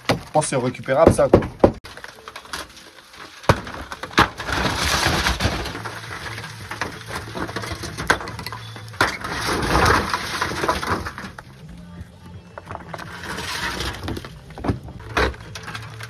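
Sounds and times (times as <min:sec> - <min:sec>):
wooden knocks and crunching: 0:00.0 - 0:16.0.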